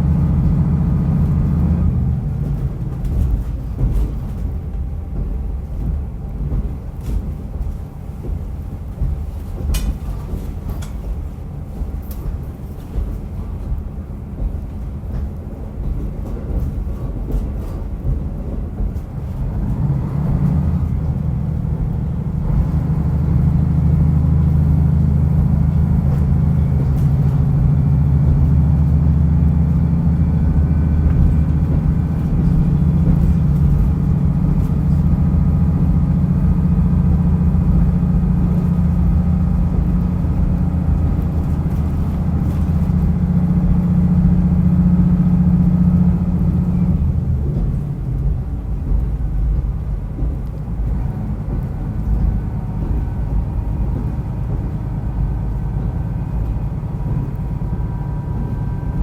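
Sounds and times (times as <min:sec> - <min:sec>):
diesel railcar engine droning: 0:00.0 - 0:59.0.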